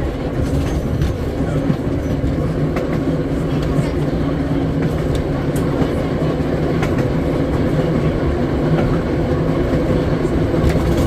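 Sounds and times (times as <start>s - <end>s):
trolley wheels rumbling on rail: 0.0s - 11.0s.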